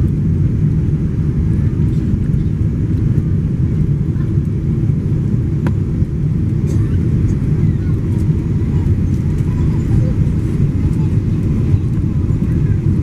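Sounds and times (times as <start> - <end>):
plane rumbling during landing: 0.0 - 13.0.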